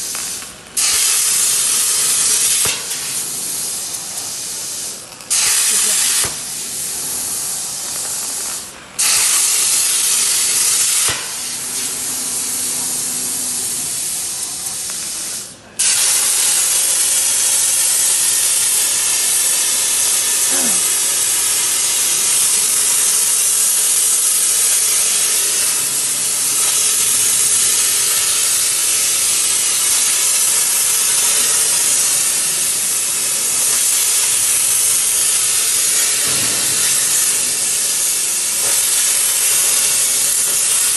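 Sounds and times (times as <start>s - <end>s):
plasma cutter arc hissing: 0.0s - 40.9s.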